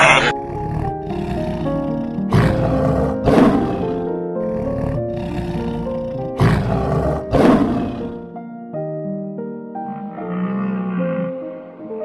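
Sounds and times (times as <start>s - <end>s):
lion roaring: 0.0s - 8.3s, 9.9s - 12.0s
background music: 0.0s - 12.0s.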